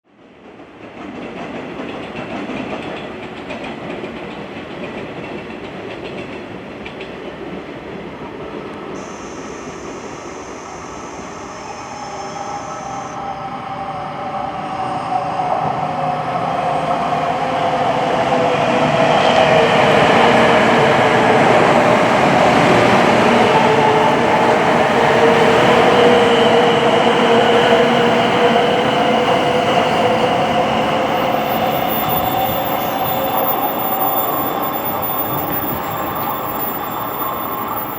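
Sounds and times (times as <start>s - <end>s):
train approaching with whine: 0.1s - 37.9s.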